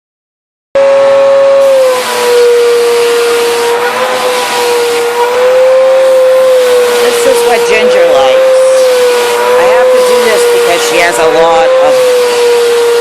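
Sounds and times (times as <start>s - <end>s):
vacuum cleaner whining: 0.8s - 13.0s.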